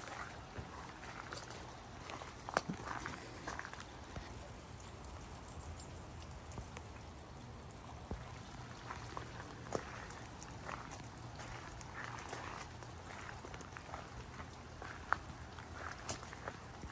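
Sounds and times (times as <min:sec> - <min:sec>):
footsteps on wet gravel: 0:00.0 - 0:16.9
light taps and ticks: 0:00.3 - 0:16.9.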